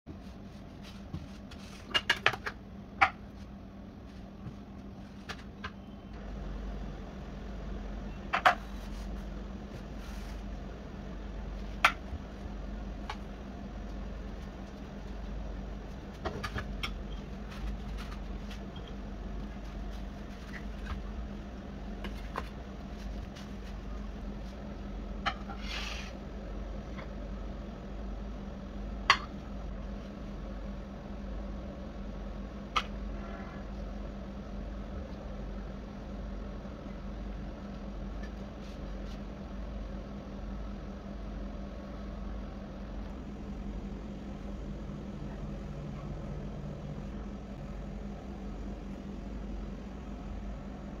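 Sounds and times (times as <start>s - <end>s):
low steady hum: 0.1s - 51.0s.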